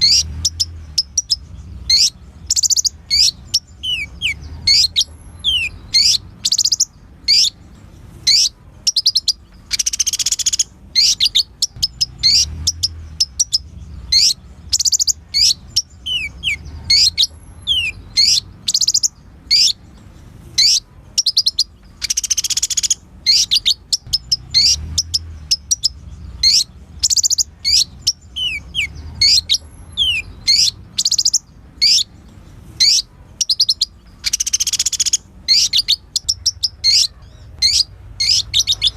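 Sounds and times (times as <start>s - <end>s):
sunbird singing: 0.0s - 38.9s.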